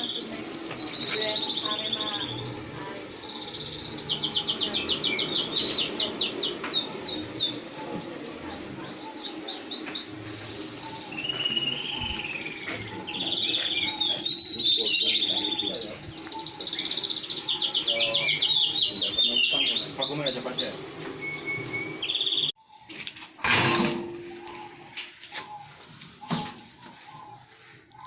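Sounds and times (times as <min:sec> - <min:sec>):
songbird singing: 0:00.0 - 0:23.0, 0:24.2 - 0:28.0.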